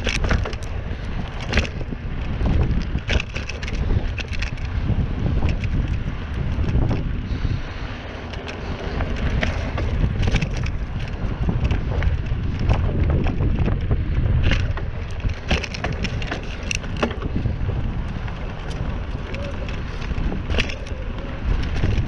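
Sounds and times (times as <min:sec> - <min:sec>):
bike clicks and rattles: 0:00.0 - 0:22.0
wind buffeting microphone: 0:00.0 - 0:22.0.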